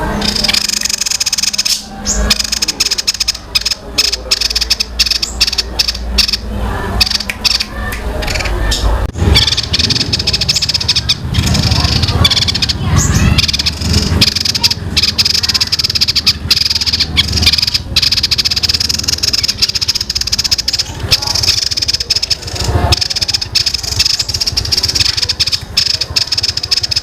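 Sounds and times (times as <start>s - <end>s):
songbird rattling trill: 0.1s - 27.0s.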